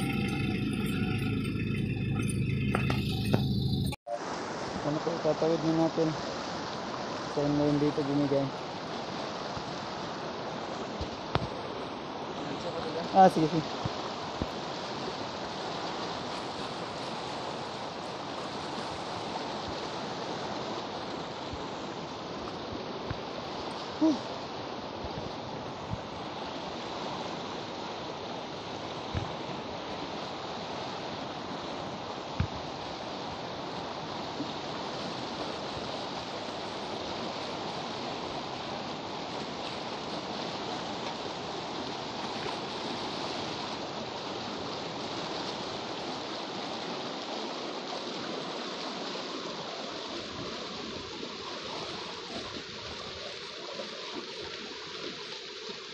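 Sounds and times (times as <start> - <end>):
river rushing: 0.0 - 55.9.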